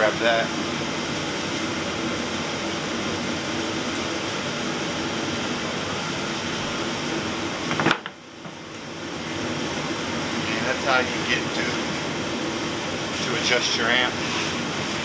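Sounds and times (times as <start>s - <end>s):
steady mechanical hum and hiss: 0.0s - 15.0s.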